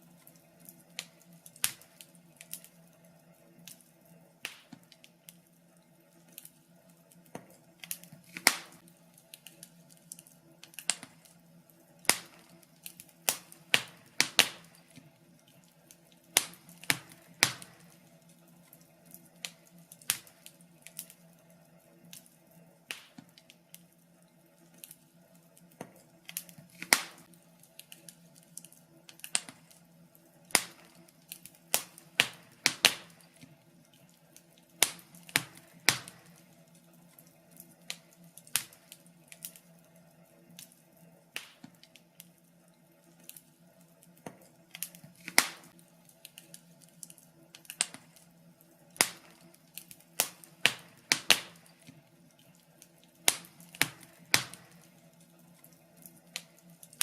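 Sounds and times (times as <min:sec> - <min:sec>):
faint steady hum: 0:00.0 - 0:57.0
fireplace fire crackling: 0:00.0 - 0:57.0.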